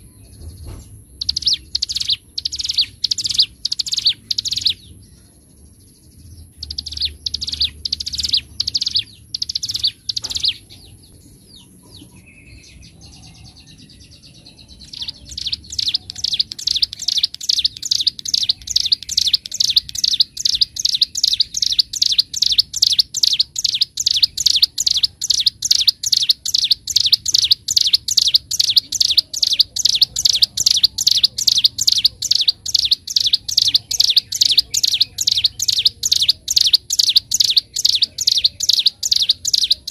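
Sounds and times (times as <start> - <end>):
bird rapid repeated chirps: 1.1 - 5.0, 5.7 - 39.9.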